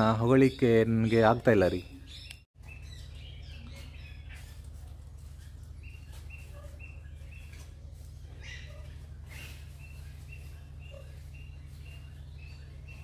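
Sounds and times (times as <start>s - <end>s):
bird chirping: 0.0s - 13.0s
steady low hum: 2.0s - 13.0s.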